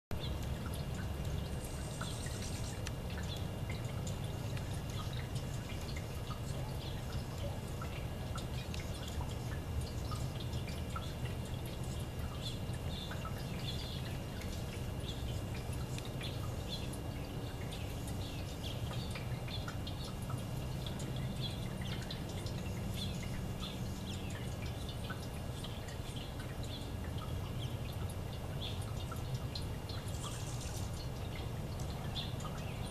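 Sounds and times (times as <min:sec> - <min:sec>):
fountain water trickling and splashing: 0:00.1 - 0:32.9
low steady hum: 0:00.1 - 0:32.9.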